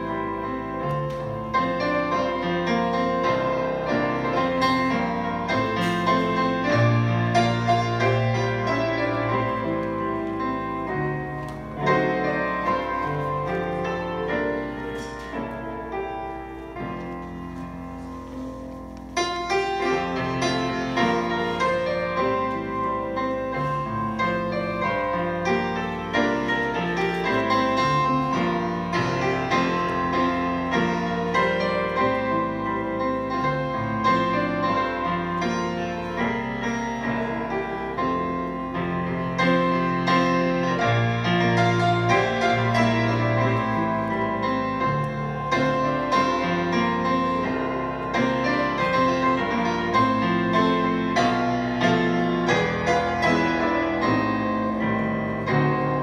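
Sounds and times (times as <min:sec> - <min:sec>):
grand piano playing hymns: 0:00.0 - 0:56.0.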